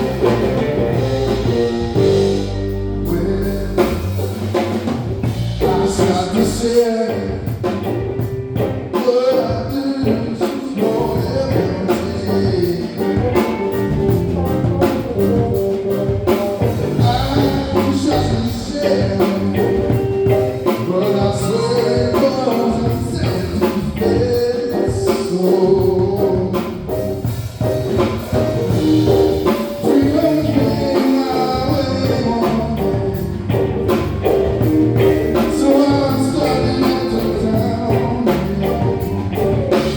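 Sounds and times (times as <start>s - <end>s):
live band music: 0.0s - 39.9s
person singing: 0.0s - 39.9s.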